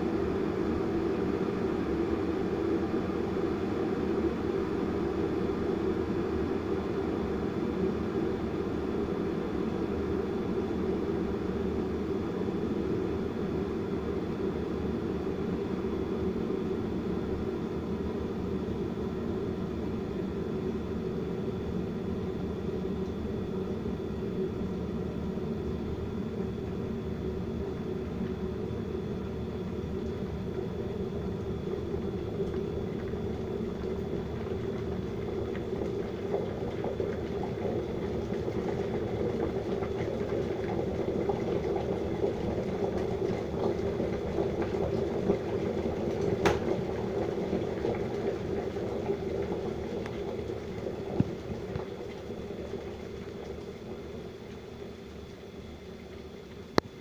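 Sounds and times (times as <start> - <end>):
electric kettle heating water: 0.0 - 57.0.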